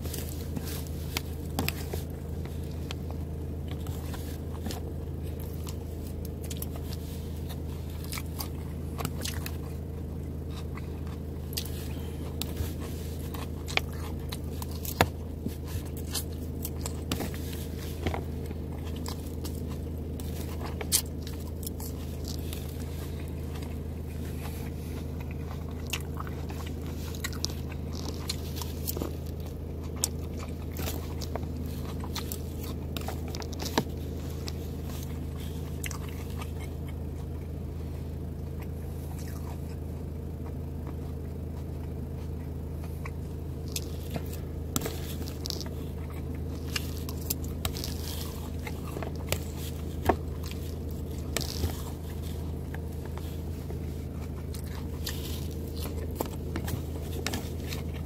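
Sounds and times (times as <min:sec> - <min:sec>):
chewing and crunching lettuce: 0:00.0 - 0:58.0
steady low hum: 0:00.0 - 0:58.0.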